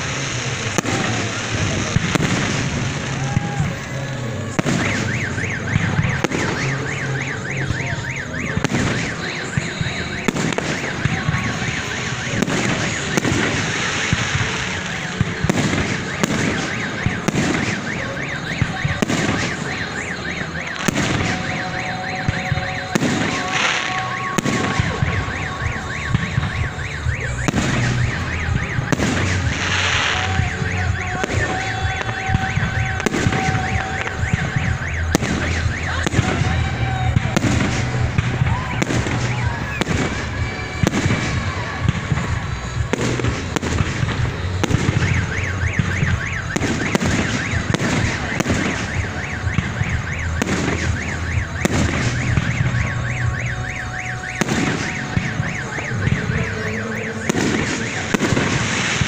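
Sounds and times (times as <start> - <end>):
fireworks bangs and crackle: 0.0 - 59.0
electronic alarm warbling: 4.6 - 59.0.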